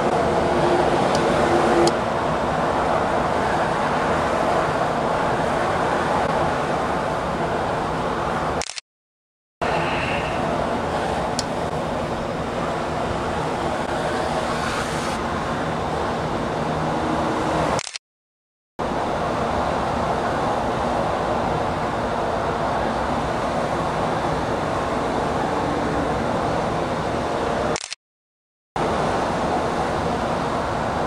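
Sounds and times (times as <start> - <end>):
city traffic noise: 0.0 - 8.8, 9.6 - 18.0, 18.8 - 28.0, 28.8 - 31.0.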